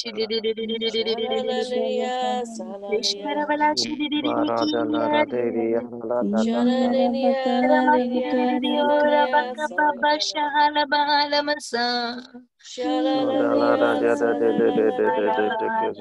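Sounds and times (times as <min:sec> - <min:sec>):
woman singing wordless syllables: 0:00.0 - 0:05.5, 0:06.2 - 0:16.0.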